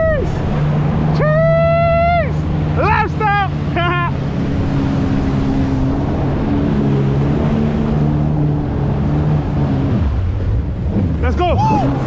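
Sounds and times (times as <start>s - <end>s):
jet ski engine running: 0.0s - 12.0s
rush of wind and water spray: 0.0s - 12.0s.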